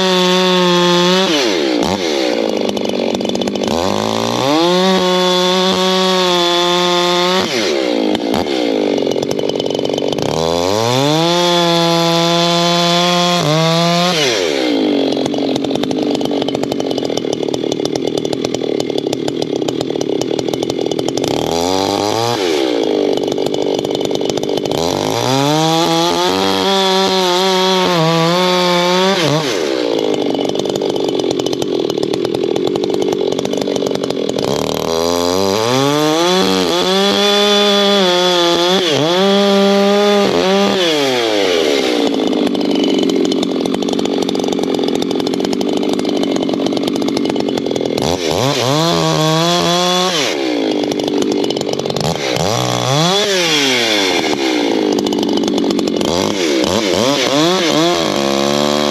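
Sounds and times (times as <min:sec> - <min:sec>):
chainsaw revving and cutting wood: 0:00.0 - 0:58.9.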